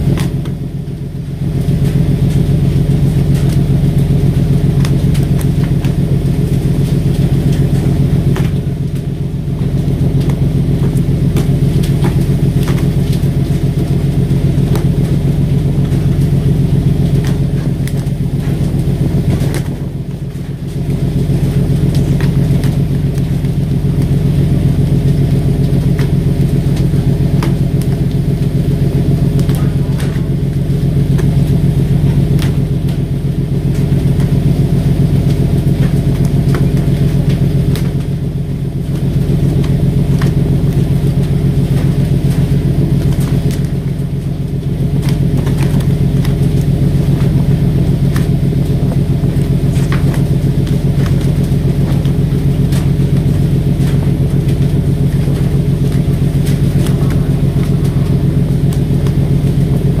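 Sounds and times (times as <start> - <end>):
diesel boat engine drone: 0.0 - 60.0.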